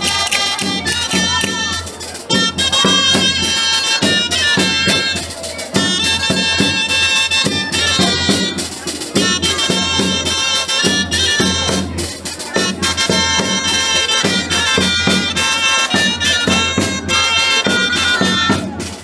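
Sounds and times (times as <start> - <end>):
reedy wind instrument melody: 0.0 - 19.0
regular drum beat: 0.0 - 19.0.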